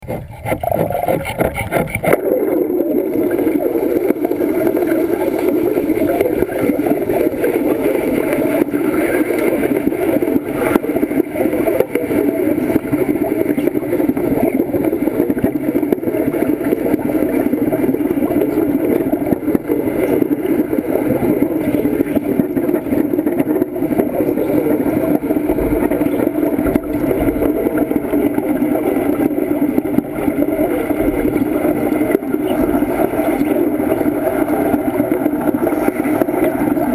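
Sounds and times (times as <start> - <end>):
underwater welding bubbling crackle: 0.0 - 36.9.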